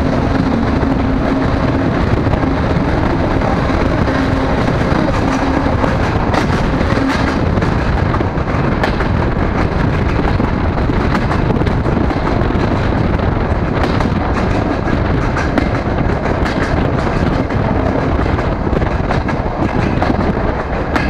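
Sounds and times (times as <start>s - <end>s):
train wheels on rails: 0.0s - 21.0s
wind rushing on microphone: 0.0s - 21.0s.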